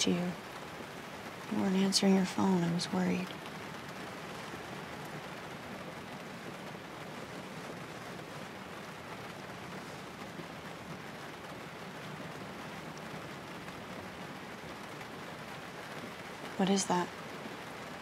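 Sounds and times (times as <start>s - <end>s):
rain on car roof: 0.0s - 18.0s.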